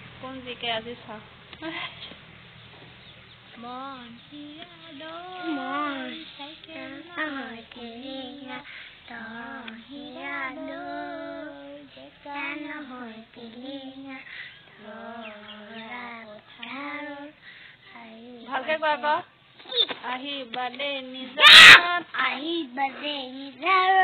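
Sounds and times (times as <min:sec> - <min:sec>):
girl singing unaccompanied: 0:03.5 - 0:18.8, 0:19.6 - 0:24.0.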